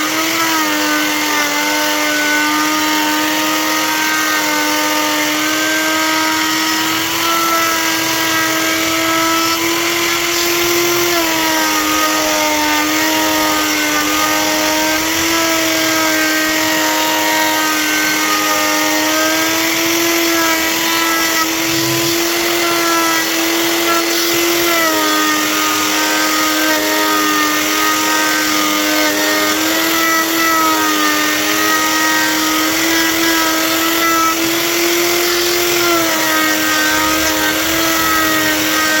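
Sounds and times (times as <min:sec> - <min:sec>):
power tool motor whining: 0:00.0 - 0:39.0.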